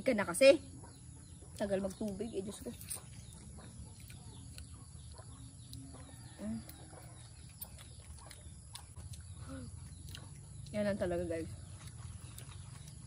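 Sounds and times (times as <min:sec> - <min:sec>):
small clicks of people eating: 0:01.5 - 0:13.0.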